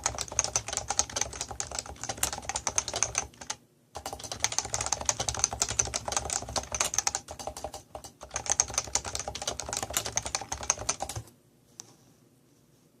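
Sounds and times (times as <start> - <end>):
fast keyboard typing: 0.0 - 11.3.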